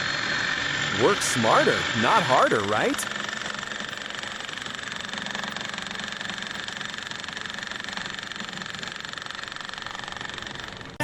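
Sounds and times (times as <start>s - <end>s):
engine running with pulsing: 0.0s - 11.0s.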